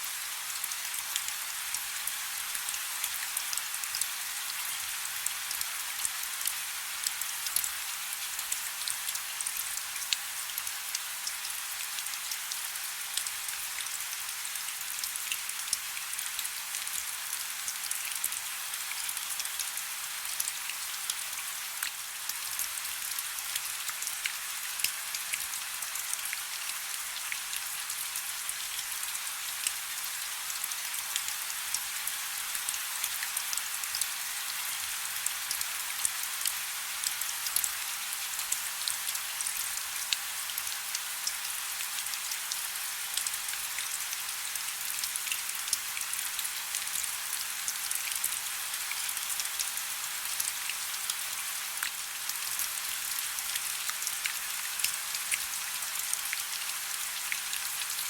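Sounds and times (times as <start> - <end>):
raindrops ticking on a surface: 0.2 - 58.0.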